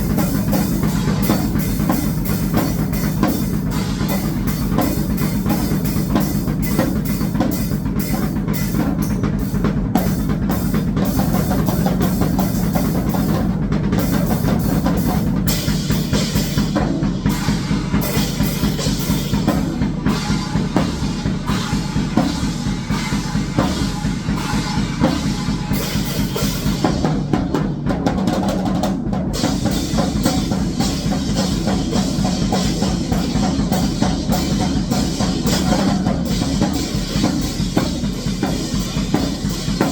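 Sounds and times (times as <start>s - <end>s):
cymbal wash: 0.0s - 27.9s, 29.3s - 39.9s
fast kick and snare drums: 0.0s - 39.9s.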